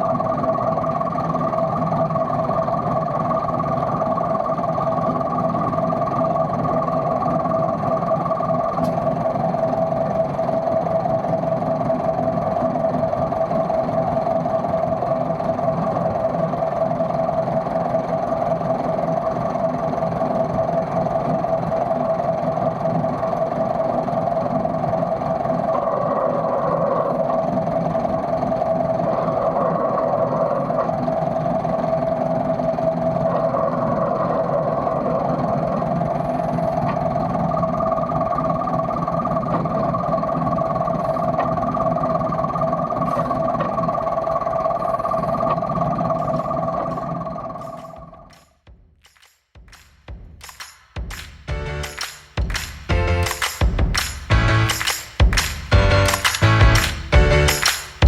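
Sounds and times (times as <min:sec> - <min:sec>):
locomotive engine humming: 0:00.0 - 0:48.3, 0:54.3 - 0:58.0.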